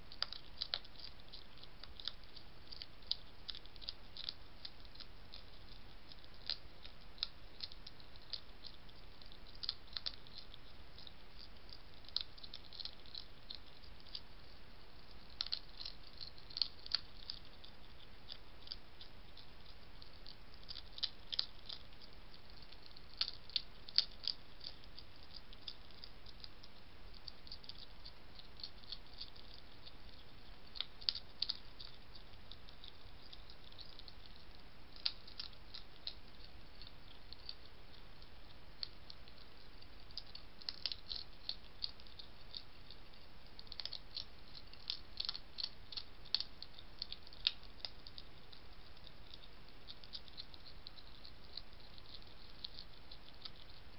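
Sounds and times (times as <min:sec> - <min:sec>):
hedgehog crunching dry food: 0:00.0 - 0:53.9
steady hiss: 0:00.0 - 0:53.9.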